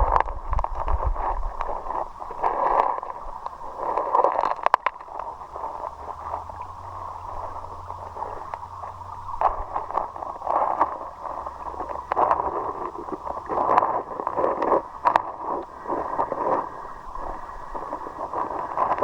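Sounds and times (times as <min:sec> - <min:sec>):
river water splashing and gurgling: 0:00.0 - 0:19.0.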